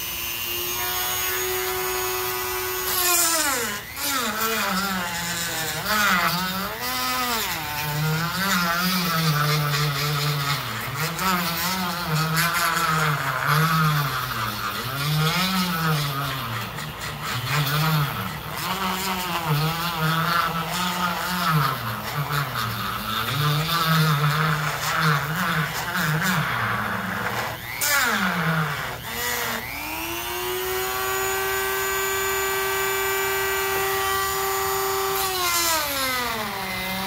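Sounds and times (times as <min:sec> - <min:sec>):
rotary tool motor whining: 0:00.0 - 0:37.0.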